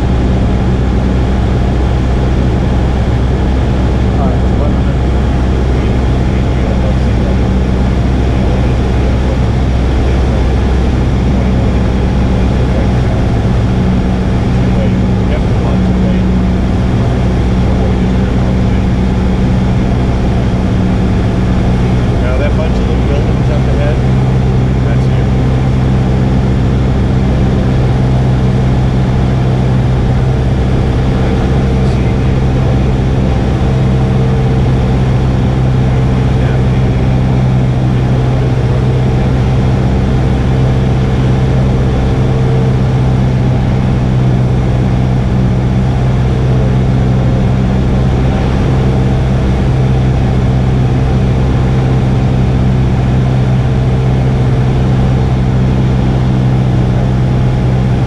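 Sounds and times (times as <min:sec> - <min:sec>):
airplane engine drone in cabin: 0:00.0 - 0:58.0
low hum: 0:00.0 - 0:58.0.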